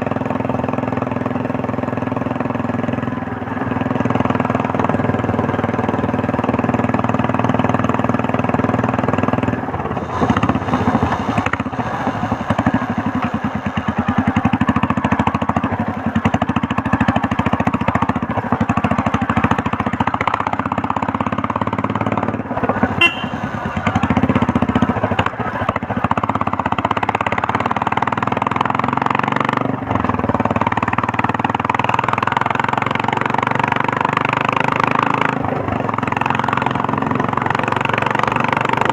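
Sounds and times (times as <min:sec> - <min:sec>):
motorcycle engine exhaust pulses: 0:00.0 - 0:38.9.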